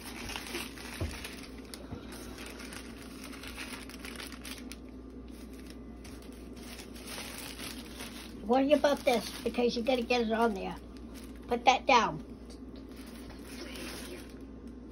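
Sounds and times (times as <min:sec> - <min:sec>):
plastic bag crinkling: 0:00.0 - 0:11.7, 0:12.8 - 0:14.9
steady low hum: 0:00.0 - 0:14.9.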